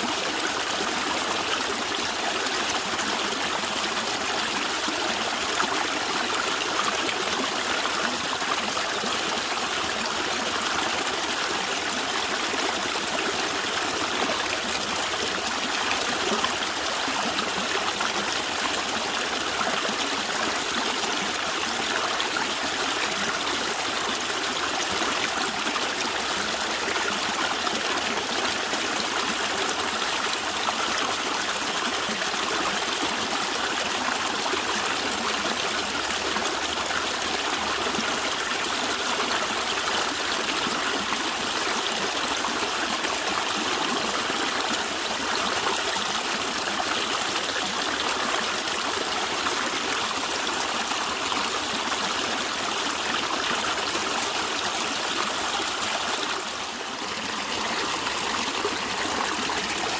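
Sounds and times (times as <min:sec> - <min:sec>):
stream water flowing and gurgling: 0:00.0 - 0:59.9.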